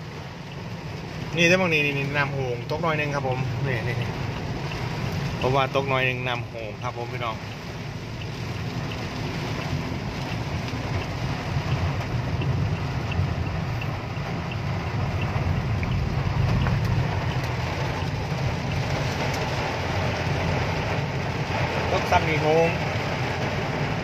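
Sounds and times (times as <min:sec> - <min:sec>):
car road and engine rumble: 0:00.0 - 0:24.0
rain hissing on car: 0:00.0 - 0:24.0.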